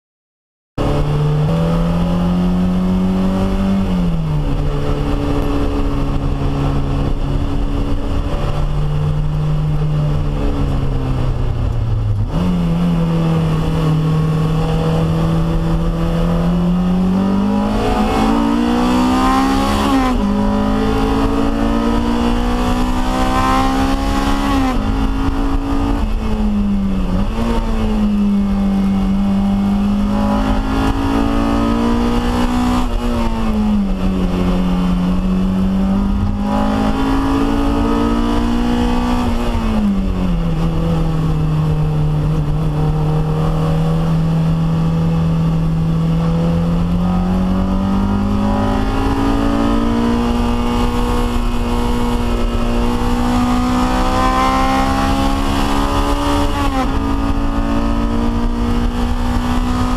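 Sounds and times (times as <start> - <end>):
car engine revving: 0.8 - 59.9.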